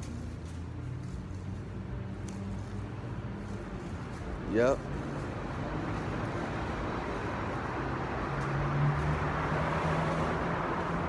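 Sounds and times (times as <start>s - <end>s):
traffic and road noise: 0.0s - 11.0s
vehicle engine hum: 0.0s - 11.0s.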